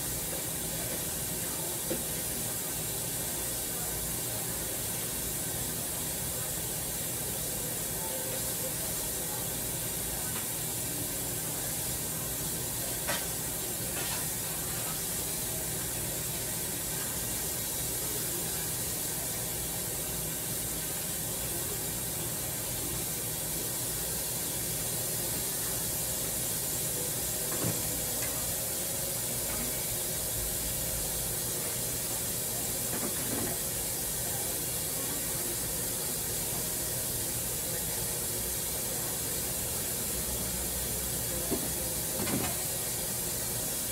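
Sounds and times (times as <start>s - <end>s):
pot boiling with steady hiss: 0.0s - 43.9s.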